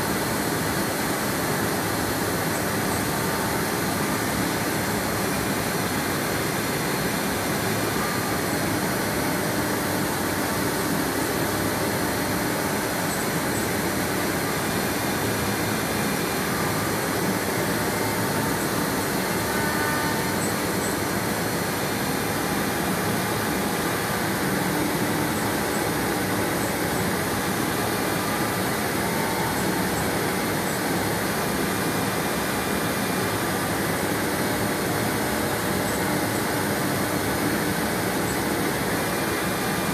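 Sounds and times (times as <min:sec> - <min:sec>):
dust extraction airflow: 0:00.0 - 0:39.9.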